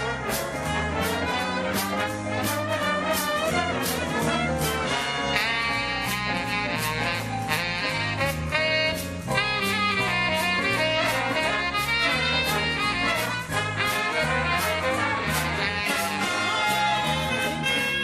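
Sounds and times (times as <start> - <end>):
big band swing music: 0.0 - 18.0.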